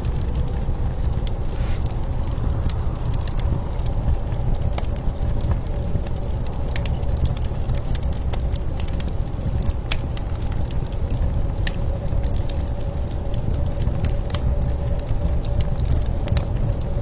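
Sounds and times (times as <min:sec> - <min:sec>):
low blizzard wind: 0:00.0 - 0:17.0
wood fire crackling and popping: 0:00.0 - 0:17.0.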